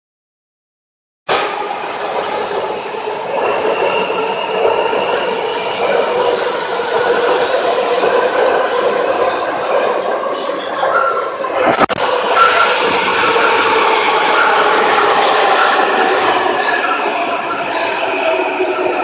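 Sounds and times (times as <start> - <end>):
train rail and wheel noise: 1.3 - 19.0.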